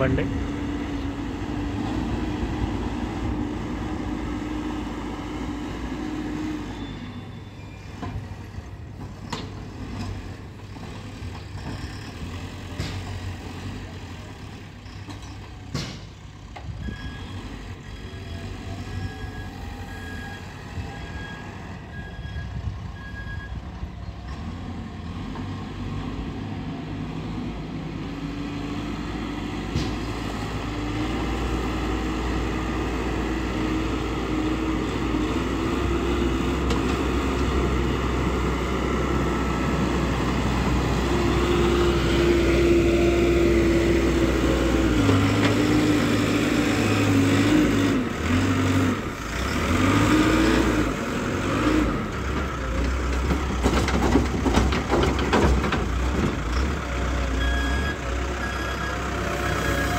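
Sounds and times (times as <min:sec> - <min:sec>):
diesel engine revving under load: 0:00.0 - 0:59.9.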